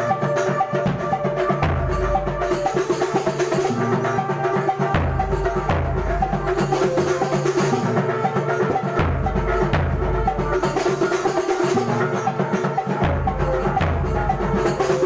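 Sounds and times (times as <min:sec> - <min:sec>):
hand drums playing: 0:00.0 - 0:15.0.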